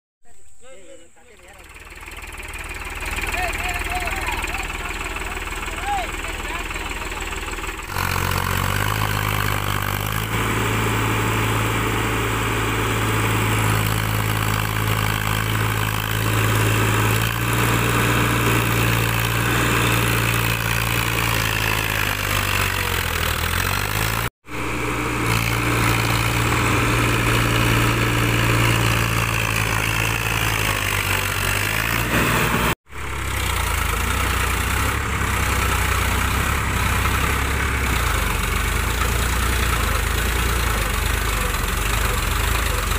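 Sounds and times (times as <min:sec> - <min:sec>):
diesel tractor engine under load: 0:01.3 - 0:42.9.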